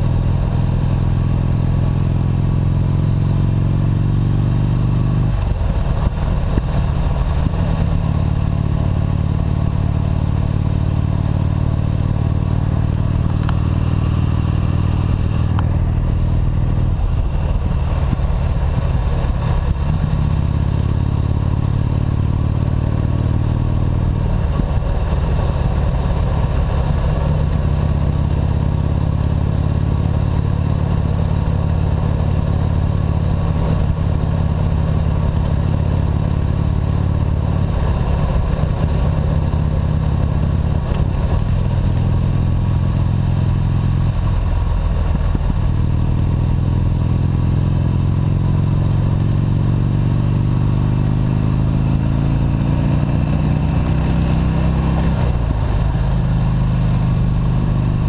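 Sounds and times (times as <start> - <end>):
motorcycle engine drone: 0.0 - 58.0.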